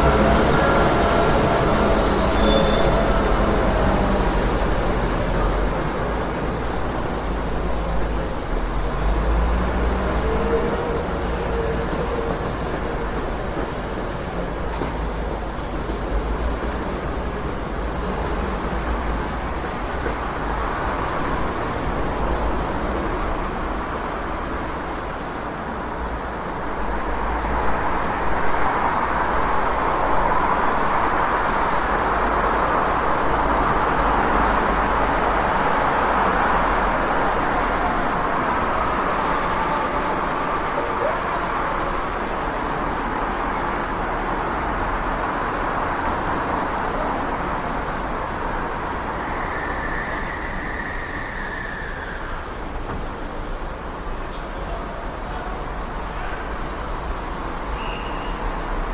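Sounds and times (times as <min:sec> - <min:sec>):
low traffic rumble: 0:00.0 - 0:58.9
passing vehicles: 0:00.0 - 0:58.9.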